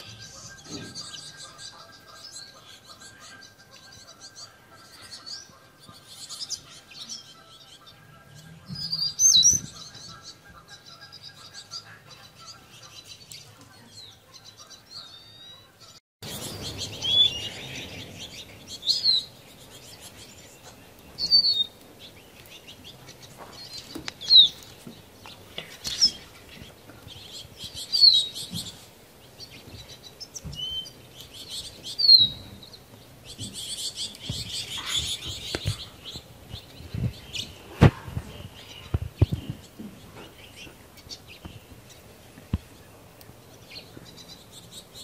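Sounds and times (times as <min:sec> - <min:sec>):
songbirds chirping and twittering: 0:00.0 - 0:45.0.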